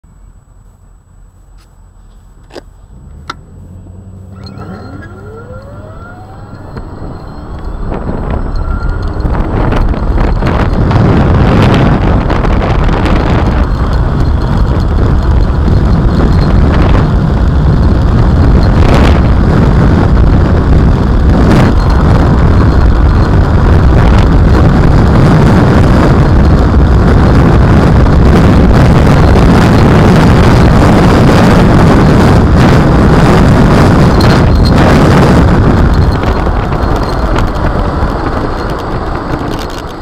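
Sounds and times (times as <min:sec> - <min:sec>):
electric motorcycle accelerating: 0:02.9 - 0:40.0
wind buffeting microphone: 0:03.0 - 0:40.0.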